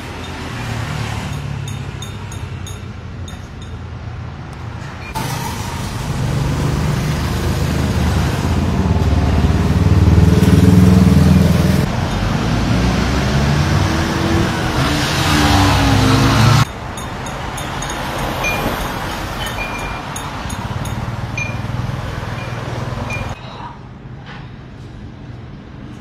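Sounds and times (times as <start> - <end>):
vehicles passing by: 0.0 - 26.0.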